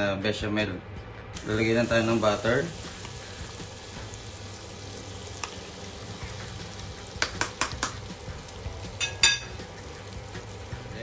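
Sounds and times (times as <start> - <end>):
butter sizzling in a saucepan: 1.4 - 11.0.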